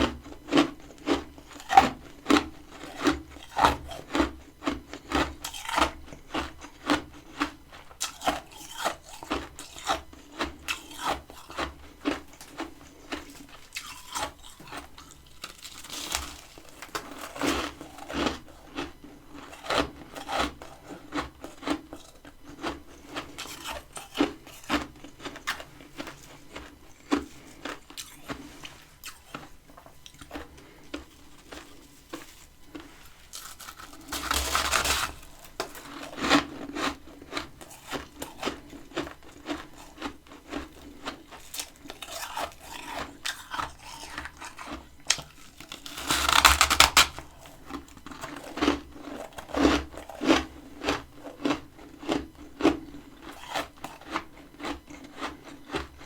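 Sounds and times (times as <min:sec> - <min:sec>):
frost being chewed: 0:00.0 - 0:56.0.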